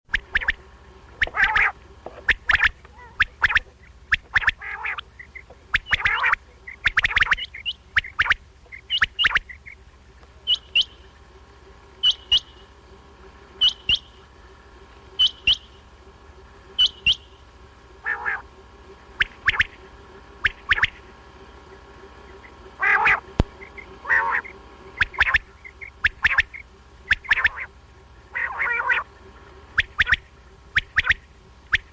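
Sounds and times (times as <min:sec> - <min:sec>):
quail calling: 0:00.1 - 0:11.3, 0:12.0 - 0:12.7, 0:13.5 - 0:14.3, 0:15.1 - 0:15.9, 0:16.6 - 0:31.9.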